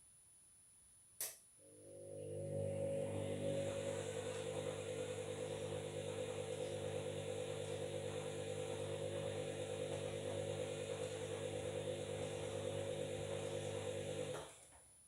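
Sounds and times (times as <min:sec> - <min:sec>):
washing machine running: 0:01.7 - 0:14.6.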